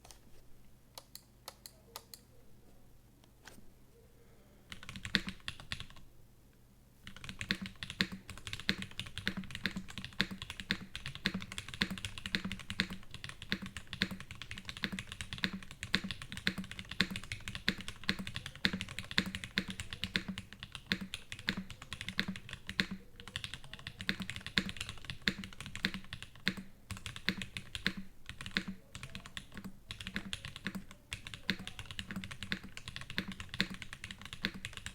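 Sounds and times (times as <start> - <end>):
mechanical keyboard typing: 4.7 - 6.0, 7.0 - 34.9.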